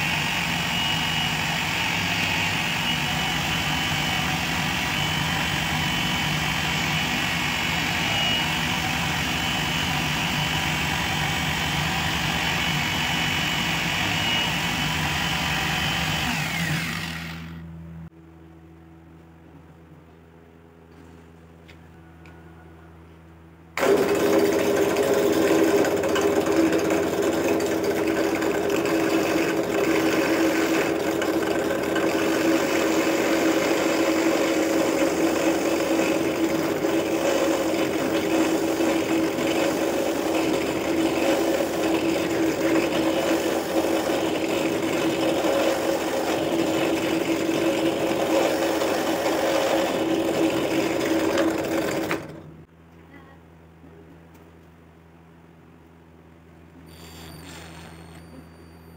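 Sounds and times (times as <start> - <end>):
drill bit drilling into wood: 0.0 - 17.6, 23.8 - 52.3, 56.9 - 58.9
drill press motor humming: 0.0 - 17.7, 23.8 - 52.7, 56.9 - 58.9.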